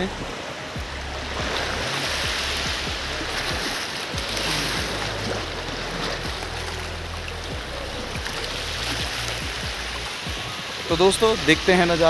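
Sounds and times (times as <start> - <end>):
low background music: 0.0 - 12.0
sea surf rushing: 0.0 - 12.0.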